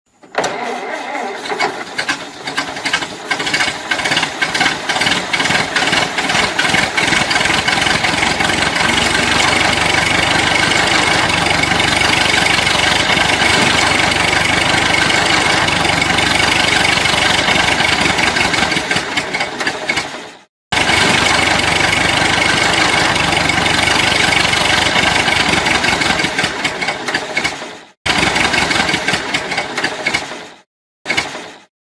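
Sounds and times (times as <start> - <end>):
truck engine starting and running: 0.2 - 31.7.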